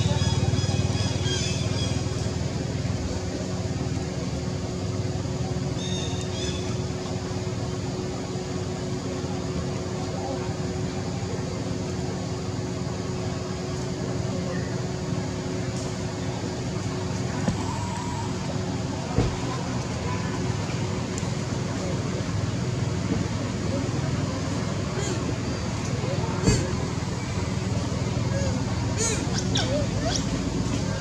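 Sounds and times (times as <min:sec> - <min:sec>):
constant drone tone: 0:00.0 - 0:31.0
low motor hum: 0:00.0 - 0:31.0.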